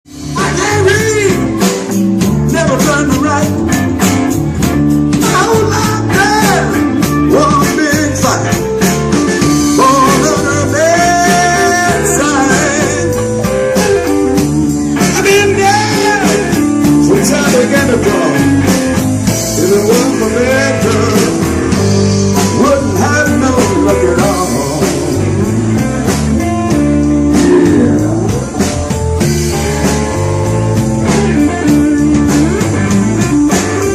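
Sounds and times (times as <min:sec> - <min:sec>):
bass and drum beat: 0:00.0 - 0:33.9
electric guitar lines: 0:00.1 - 0:33.9.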